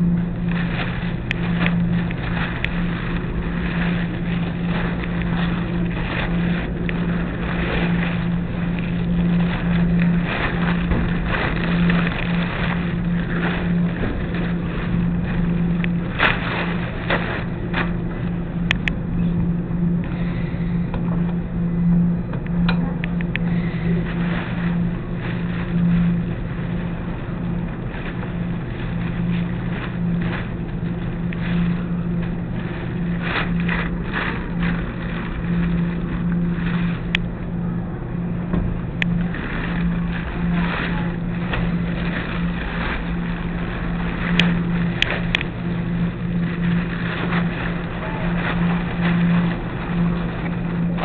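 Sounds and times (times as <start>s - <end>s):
background rumble: 0.0s - 51.0s
laundry machines humming: 0.0s - 51.0s.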